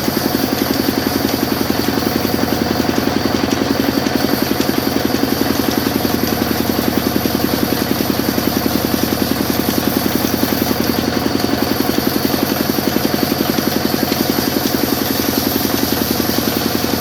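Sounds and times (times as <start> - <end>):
sawmill machine throbbing: 0.0 - 17.0.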